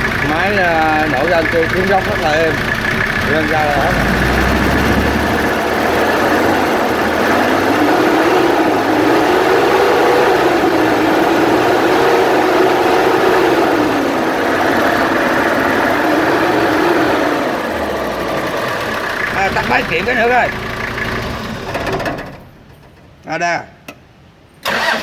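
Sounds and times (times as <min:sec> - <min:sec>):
diesel engine revving and idling: 0:00.0 - 0:22.7.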